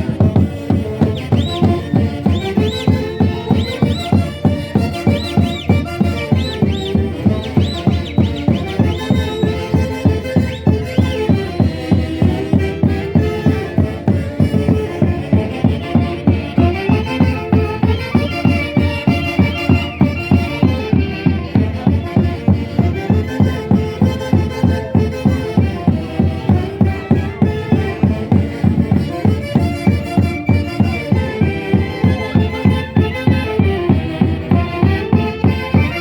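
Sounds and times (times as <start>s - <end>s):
violin: 0.0s - 36.0s
wind instruments melody: 0.0s - 36.0s.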